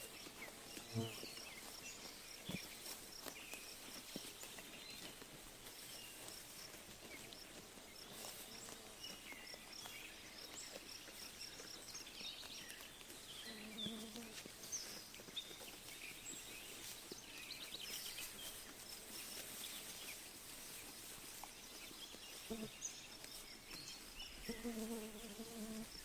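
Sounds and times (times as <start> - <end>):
sheep chewing grass: 0.0 - 26.0.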